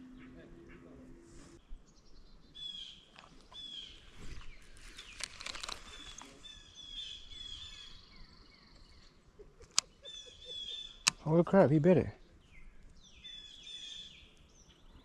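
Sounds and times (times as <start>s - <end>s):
quiet lakeside ambience: 0.0s - 15.0s
small birds chirping: 0.0s - 15.0s.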